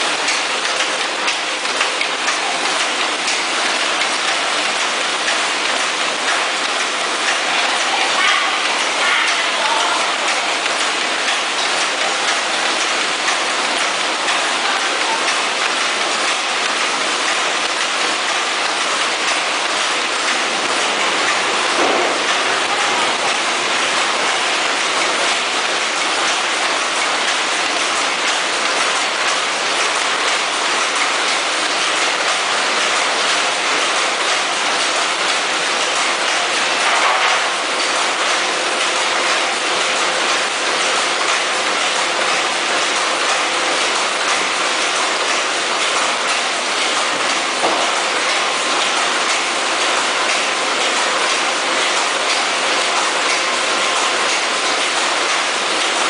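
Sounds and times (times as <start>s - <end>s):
packing machines clattering: 0.0s - 56.0s.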